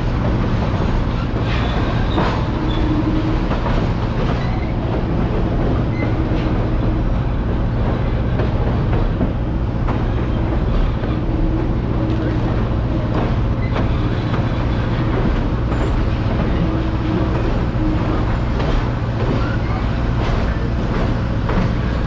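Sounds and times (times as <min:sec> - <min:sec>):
train cars rumbling: 0:00.0 - 0:22.0
wheels clicking on rails: 0:00.0 - 0:22.0.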